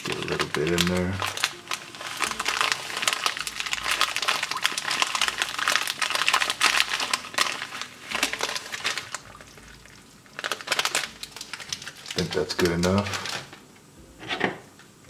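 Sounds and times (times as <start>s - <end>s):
foil pouch crinkling: 0.0s - 13.7s.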